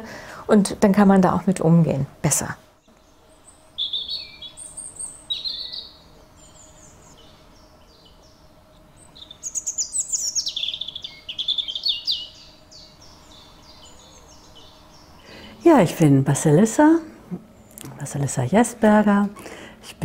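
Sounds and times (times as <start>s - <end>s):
songbirds chirping: 0.2s - 20.0s.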